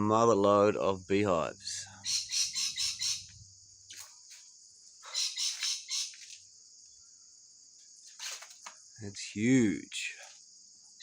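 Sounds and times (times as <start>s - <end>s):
small birds chirping: 0.8s - 11.0s.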